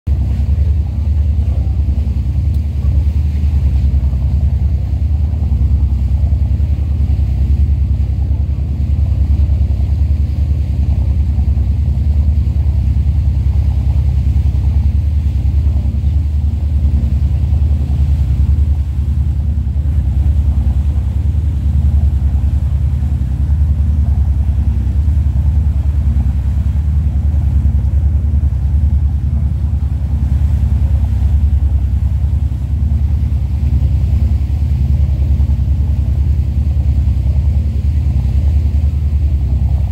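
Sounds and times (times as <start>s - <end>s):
boat engine rumbling: 0.0s - 39.9s
water noise: 0.1s - 39.9s.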